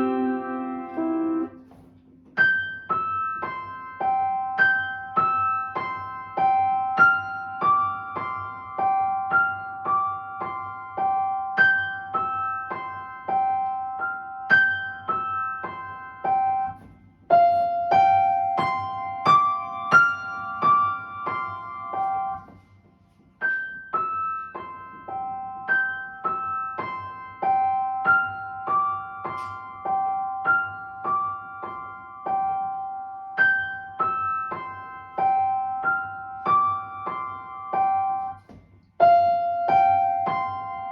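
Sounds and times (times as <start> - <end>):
solo piano playing: 0.0 - 1.8, 2.4 - 22.6, 23.4 - 40.9.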